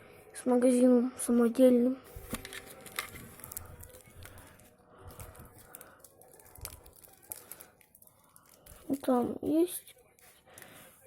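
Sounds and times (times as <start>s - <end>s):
objects being handled: 2.1s - 11.0s.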